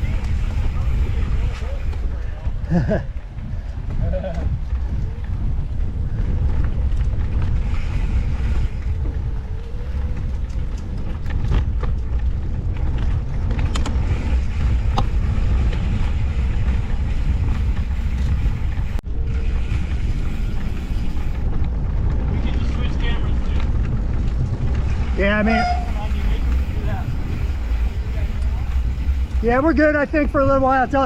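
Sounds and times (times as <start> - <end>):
bike rolling over dirt trail: 0.0 - 31.0
wind buffeting microphone: 0.0 - 31.0.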